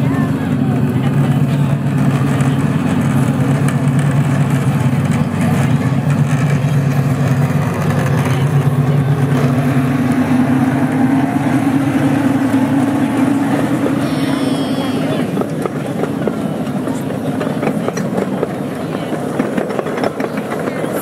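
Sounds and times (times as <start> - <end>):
miniature locomotive engine running: 0.0 - 21.0.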